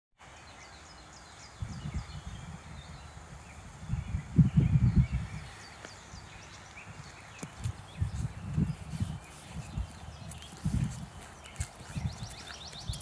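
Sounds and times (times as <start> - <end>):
songbirds chirping: 0.2 - 13.0
wind buffeting microphone: 0.7 - 13.0.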